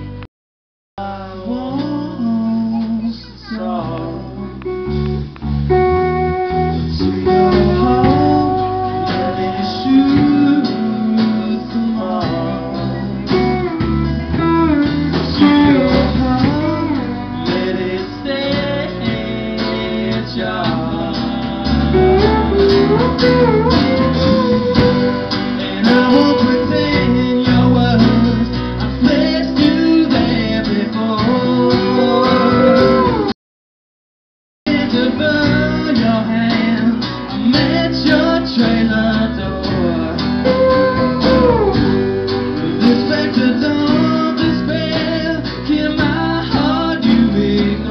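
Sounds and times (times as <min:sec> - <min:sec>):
bass guitar: 0:00.0 - 0:00.3, 0:01.0 - 0:33.4, 0:34.7 - 0:47.9
man singing: 0:01.0 - 0:05.1, 0:06.5 - 0:33.3, 0:34.7 - 0:47.9
drums: 0:01.0 - 0:33.4, 0:34.7 - 0:47.9
strummed acoustic guitar: 0:01.1 - 0:33.3, 0:34.7 - 0:47.9
electric guitar: 0:01.2 - 0:33.3, 0:34.7 - 0:47.9.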